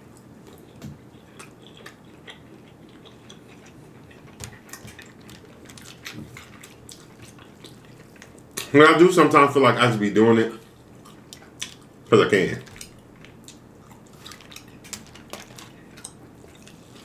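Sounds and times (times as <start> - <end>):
chewing and mouth sounds: 0.0 - 8.8, 10.6 - 17.0.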